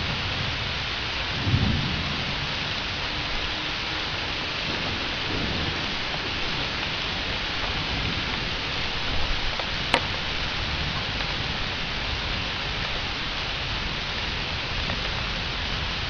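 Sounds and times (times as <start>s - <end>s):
heavy rain falling: 0.0s - 16.0s
low rumble of thunder: 0.0s - 16.0s.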